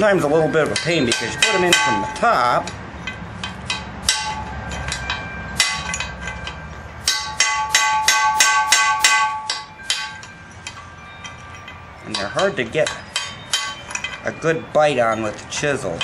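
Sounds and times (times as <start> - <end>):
hammer striking chisel on metal: 0.0 - 16.0.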